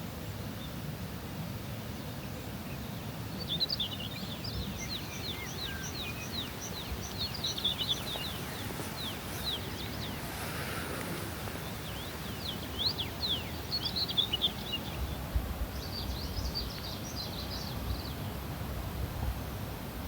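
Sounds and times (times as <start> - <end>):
songbirds chirping: 1.7 - 18.7.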